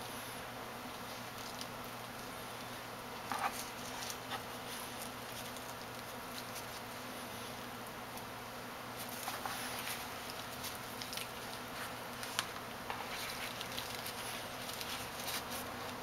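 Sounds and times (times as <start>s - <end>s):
low steady hum: 0.0s - 16.0s
hands rustling food: 0.8s - 8.3s, 8.9s - 16.0s.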